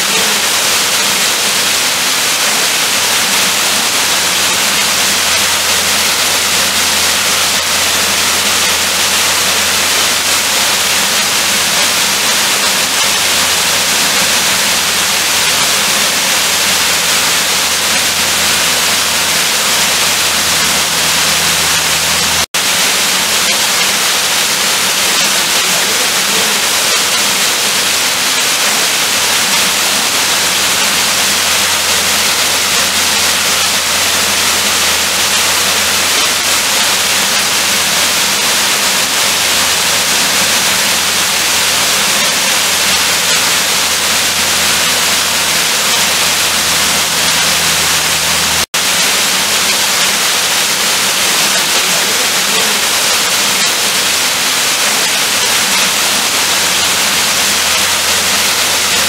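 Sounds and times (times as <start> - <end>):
waterfall rushing into a pool: 0.0 - 59.0.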